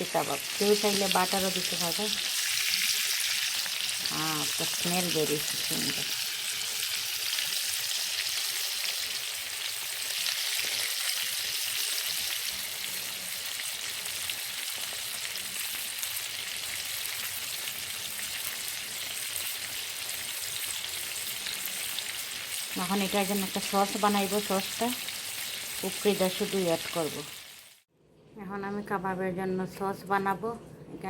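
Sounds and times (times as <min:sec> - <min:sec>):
meat sizzling in a pan: 0:00.0 - 0:27.9.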